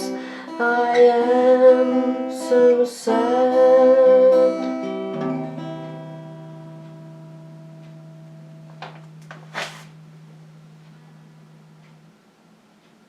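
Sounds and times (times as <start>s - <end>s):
acoustic guitar chord ringing: 0.0s - 12.6s.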